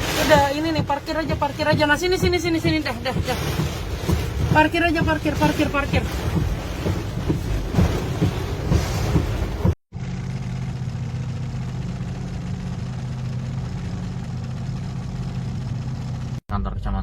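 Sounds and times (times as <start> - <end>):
vehicle engine humming: 0.0 - 16.4.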